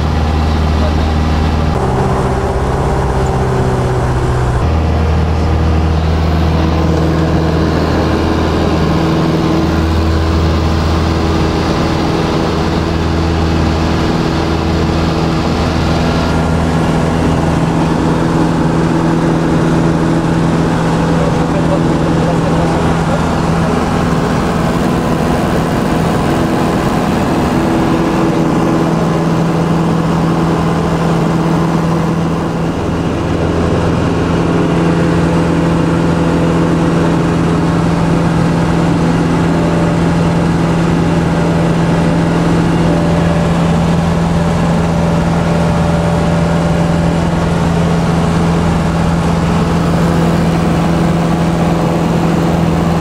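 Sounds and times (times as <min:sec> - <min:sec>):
light aircraft engine and propeller: 0:00.0 - 0:53.0.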